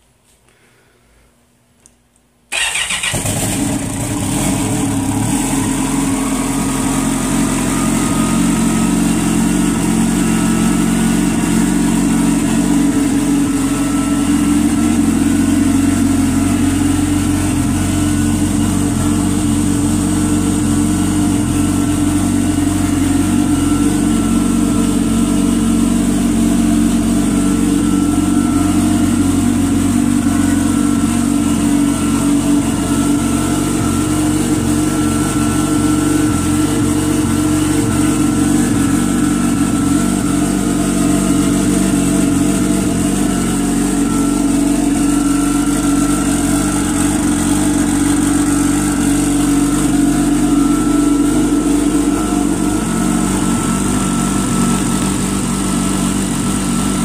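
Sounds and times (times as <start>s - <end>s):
watercraft engine starting and idling: 2.5s - 57.0s.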